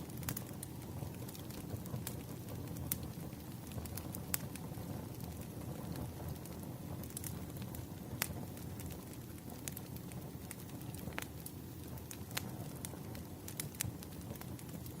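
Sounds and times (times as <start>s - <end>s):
firewood crackling and popping: 0.0s - 15.0s
low rumble of fire: 0.0s - 15.0s.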